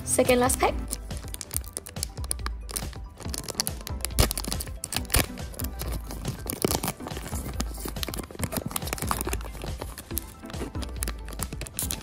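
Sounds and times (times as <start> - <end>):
background music: 0.0 - 12.0
foil pack tearing and crinkling: 0.9 - 12.0.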